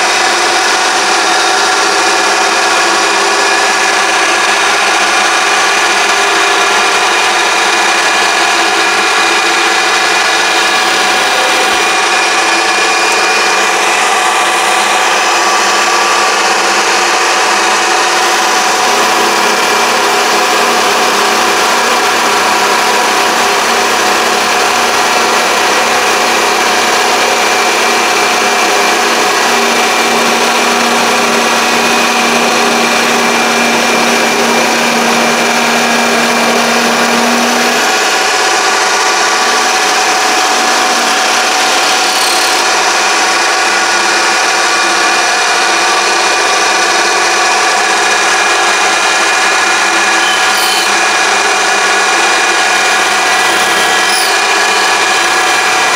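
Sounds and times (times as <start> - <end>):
lathe motor whine: 0.0 - 55.9.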